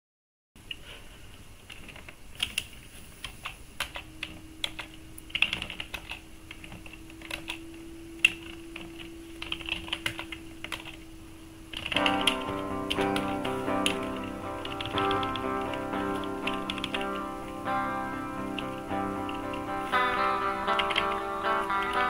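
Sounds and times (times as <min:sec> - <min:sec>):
faint steady hum: 0:00.6 - 0:22.0
keyboard typing: 0:01.7 - 0:11.0, 0:11.7 - 0:17.6, 0:18.4 - 0:22.0.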